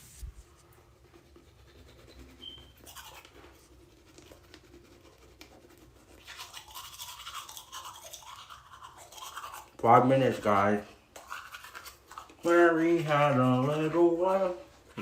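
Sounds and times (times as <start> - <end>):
toothbrush scrubbing teeth: 0.9 - 15.0.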